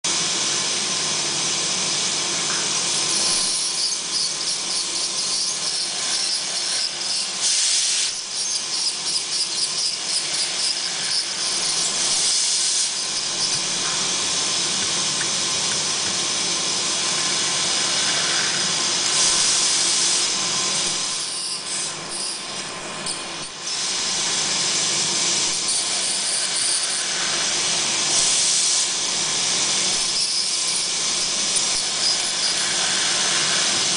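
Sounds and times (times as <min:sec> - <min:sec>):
dental drill hissing: 0:01.9 - 0:33.9.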